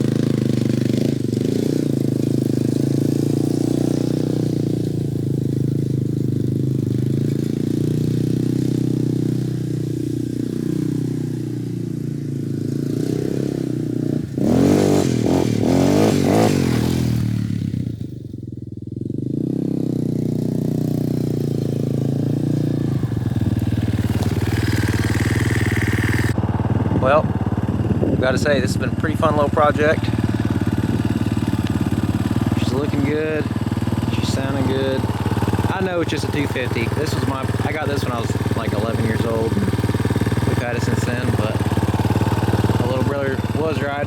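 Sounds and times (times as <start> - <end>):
engine running and revving: 0.0 - 44.0.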